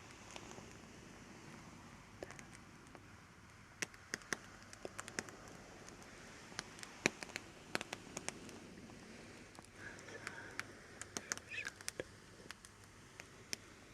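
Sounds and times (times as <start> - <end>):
light crackling clicks and snaps: 0.0 - 0.8, 2.2 - 13.9.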